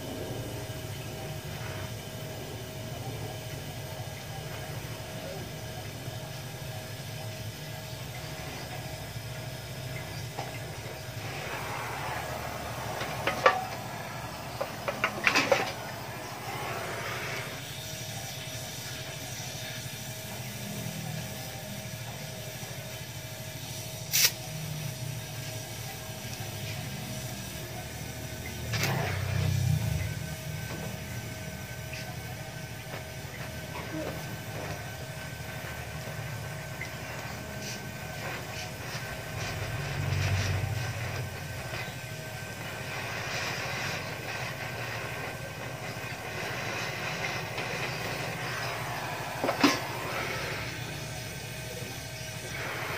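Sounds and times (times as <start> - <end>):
gas welding torch hissing: 0.0 - 52.9
steady low hum: 0.0 - 52.9.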